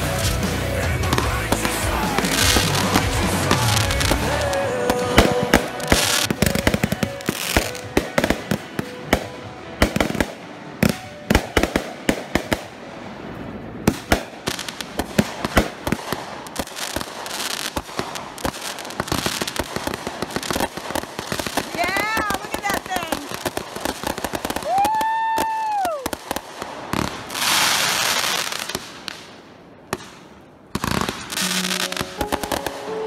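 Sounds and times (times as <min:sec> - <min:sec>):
fireworks popping and crackling: 0:00.0 - 0:33.0.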